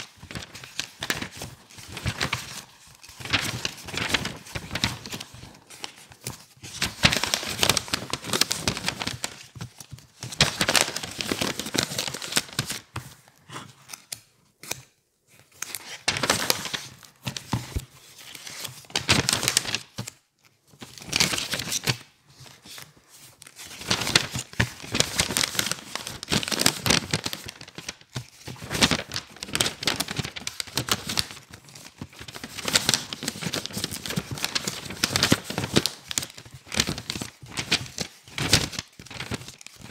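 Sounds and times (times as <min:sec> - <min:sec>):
book pages flipping: 0:00.0 - 0:39.9.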